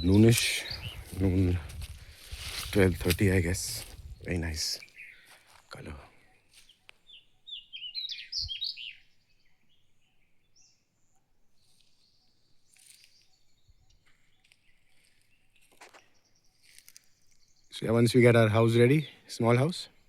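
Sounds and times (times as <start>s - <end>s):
bird chirps: 0.0s - 1.8s, 2.4s - 20.0s.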